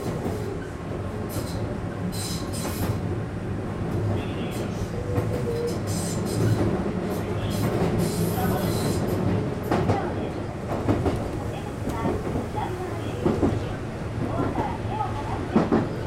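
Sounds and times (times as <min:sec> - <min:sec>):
train motors and wheels rumbling: 0:00.0 - 0:16.0.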